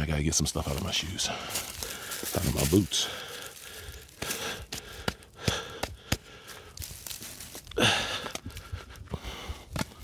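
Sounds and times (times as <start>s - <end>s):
boot knocking and rustling: 0.6s - 8.7s, 9.6s - 10.0s.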